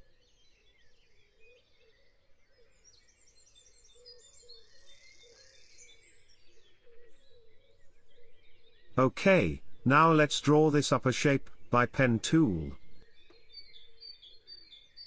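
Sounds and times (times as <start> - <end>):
birds singing: 0.1 - 15.0.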